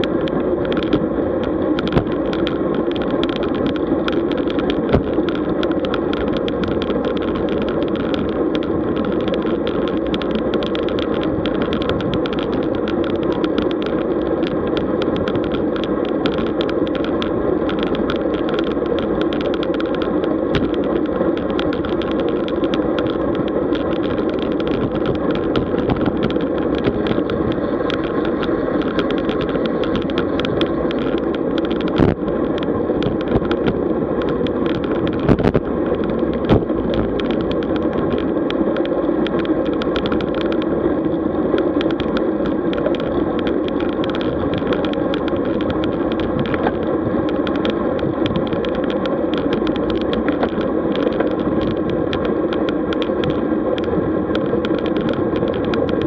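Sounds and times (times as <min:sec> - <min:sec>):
bicycle clicks and rattles: 0:00.0 - 0:56.0
bicycle tyre noise: 0:00.0 - 0:56.0.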